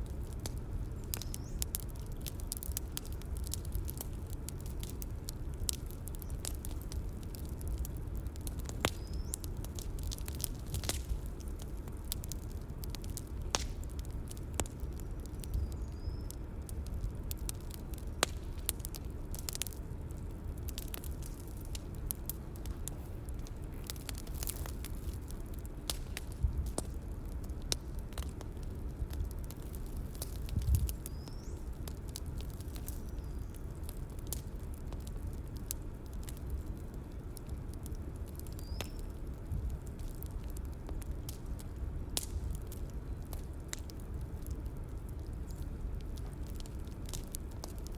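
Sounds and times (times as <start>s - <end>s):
bonfire rumble: 0.0s - 47.9s
fire pops and snaps: 0.0s - 47.9s.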